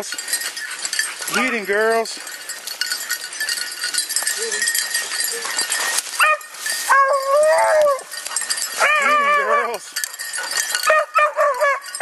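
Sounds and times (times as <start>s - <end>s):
dogs baying: 0.2s - 2.0s, 3.0s - 12.0s.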